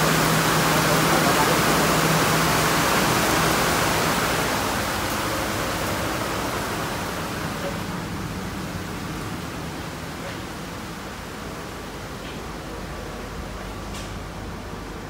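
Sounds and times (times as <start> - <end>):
train machinery rushing with low hum: 0.0 - 15.0.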